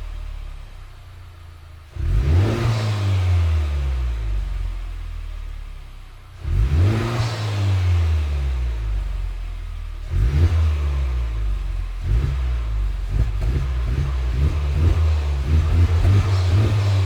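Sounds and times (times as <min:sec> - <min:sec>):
car engine rumbling at low revs: 0:00.0 - 0:17.0.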